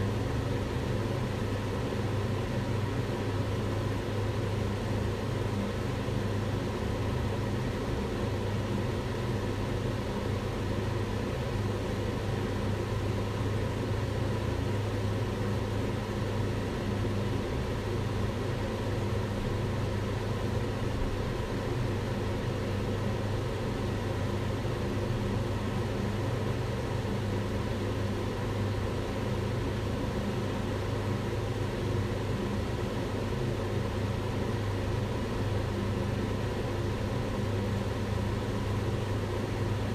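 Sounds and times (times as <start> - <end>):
range hood fan running: 0.0 - 39.9.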